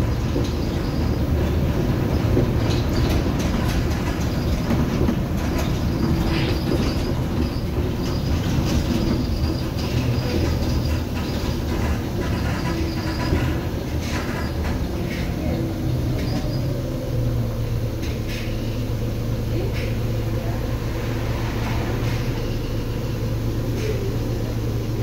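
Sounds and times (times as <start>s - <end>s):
bus diesel engine rumble: 0.0s - 25.0s.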